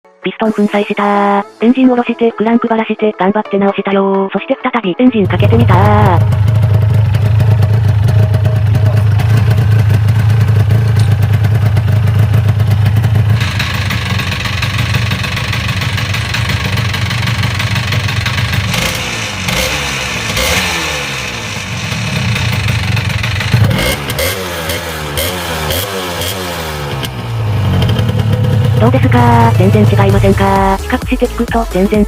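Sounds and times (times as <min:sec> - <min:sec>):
two-stroke engine revving: 0:05.2 - 0:32.0.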